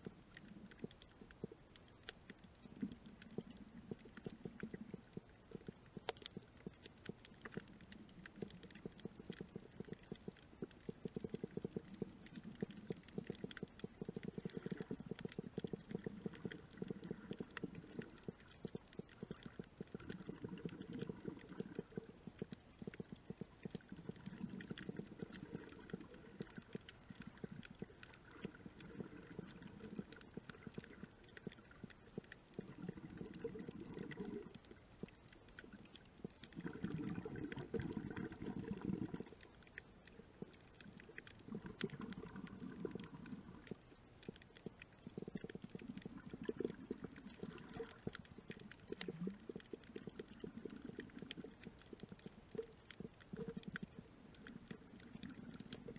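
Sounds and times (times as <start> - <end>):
underwater crackle of clicks: 0.0 - 55.9.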